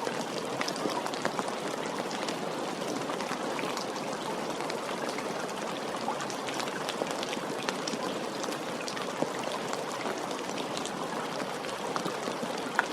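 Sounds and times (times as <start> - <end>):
steady rain: 0.0 - 12.9.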